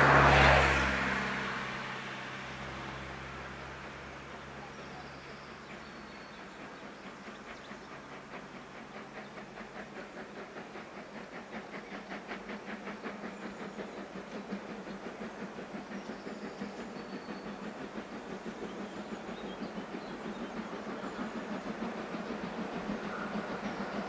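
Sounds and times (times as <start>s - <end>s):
steam hiss: 0.0s - 24.0s
steam locomotive chuffing: 0.0s - 24.0s.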